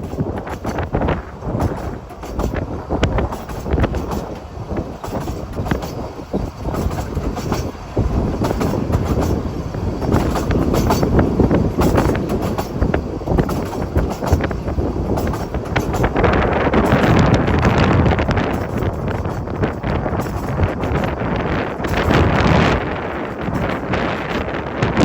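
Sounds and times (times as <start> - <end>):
train rumbling on rails: 0.0 - 25.0
wheels clicking over rail joints: 0.0 - 25.0.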